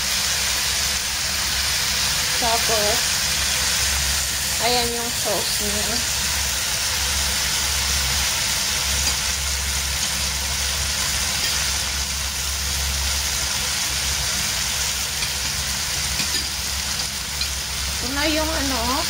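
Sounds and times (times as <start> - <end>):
food frying in oil: 0.0 - 19.0.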